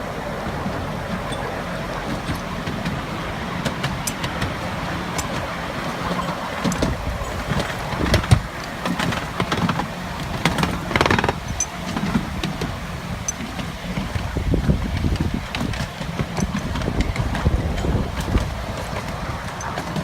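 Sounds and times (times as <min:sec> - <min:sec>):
miniature train rumbling: 0:00.0 - 0:20.0.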